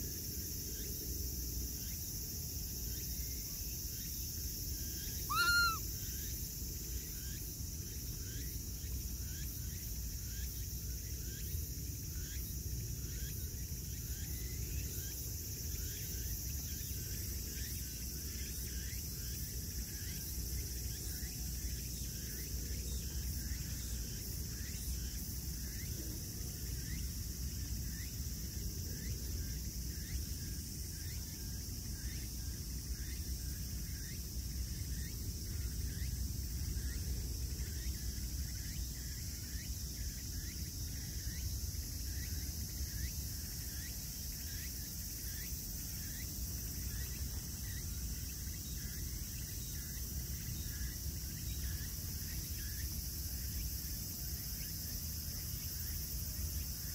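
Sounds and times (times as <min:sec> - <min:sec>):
high continuous insect buzz: 0:00.0 - 0:56.9
soft insect chirp: 0:00.0 - 0:56.9.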